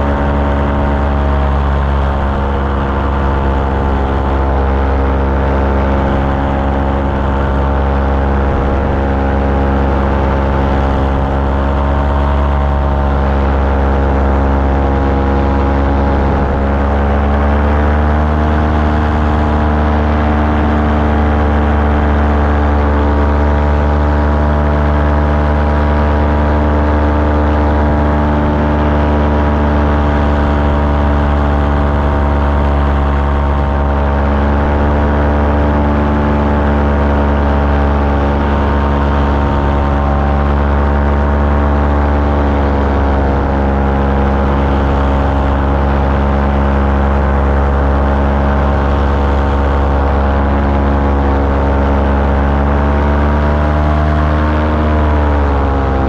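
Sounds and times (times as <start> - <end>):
small aircraft engine in flight: 0.0 - 56.0.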